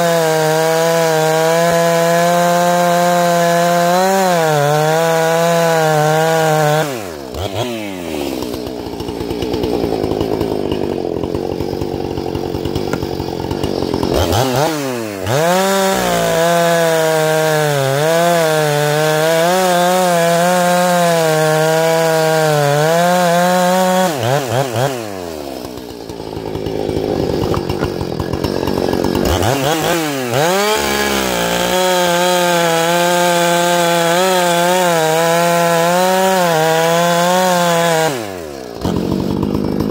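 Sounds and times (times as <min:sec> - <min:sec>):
chainsaw running under load: 0:00.0 - 0:39.9.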